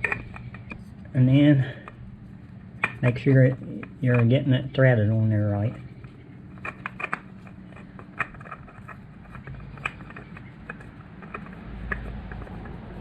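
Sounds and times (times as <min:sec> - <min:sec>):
oil filter clicking and scraping: 0:00.0 - 0:13.0.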